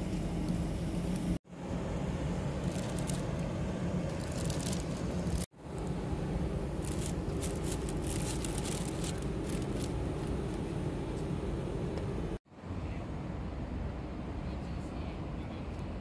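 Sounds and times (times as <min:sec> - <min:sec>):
low outdoor rumble with hiss: 0:00.0 - 0:16.0.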